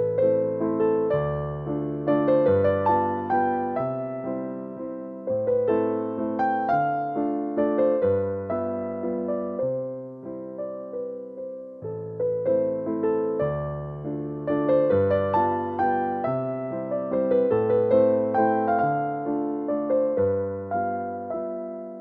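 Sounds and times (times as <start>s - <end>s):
soft piano piece: 0.0s - 22.0s.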